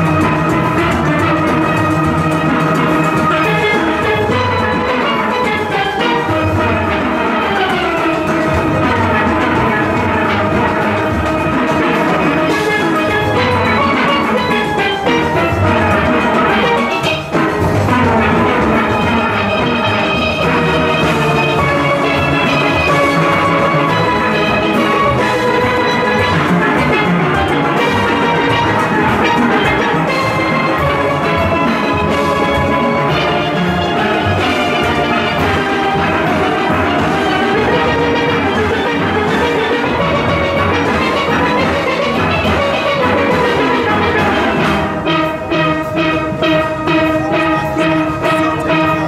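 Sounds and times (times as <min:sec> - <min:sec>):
drum beat: 0:00.0 - 0:49.0
steelpans playing: 0:00.0 - 0:49.0.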